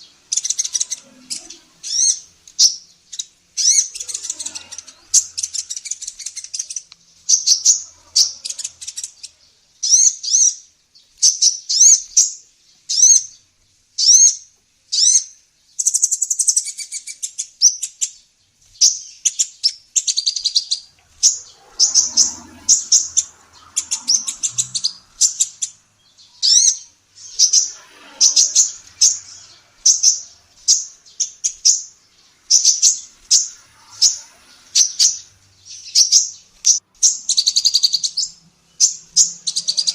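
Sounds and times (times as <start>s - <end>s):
sunbird chirping and twittering: 0.0s - 39.9s.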